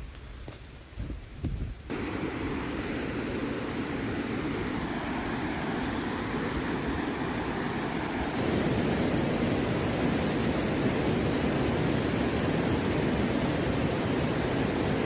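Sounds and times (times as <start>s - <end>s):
river running high: 1.9s - 15.0s
waterfall rushing: 1.9s - 15.0s.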